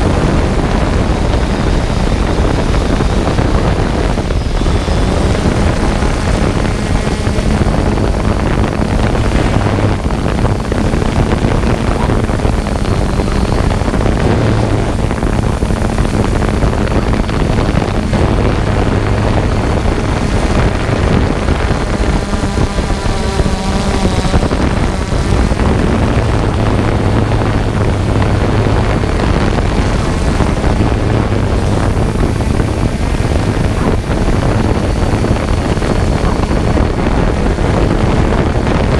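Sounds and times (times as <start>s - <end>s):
drone propellers buzzing: 0.0s - 38.9s
wind noise on microphone: 0.0s - 38.9s.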